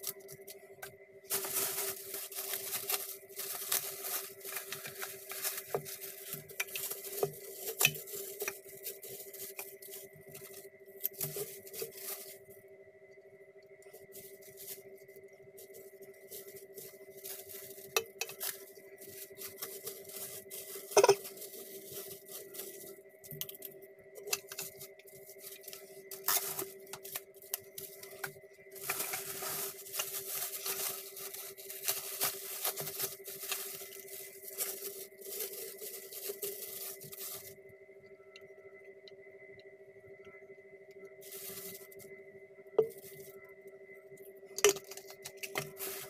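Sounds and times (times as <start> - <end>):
faint steady hum: 0.0 - 46.0
plastic packaging crinkling: 1.3 - 12.4, 13.9 - 15.0, 15.6 - 37.6, 41.2 - 42.0, 42.8 - 43.3, 44.6 - 46.0.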